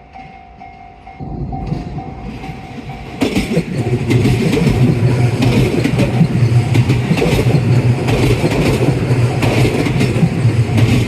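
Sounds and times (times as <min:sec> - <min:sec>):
electric train rumbling: 0:00.0 - 0:11.0
wheels clattering on rails: 0:00.1 - 0:11.0.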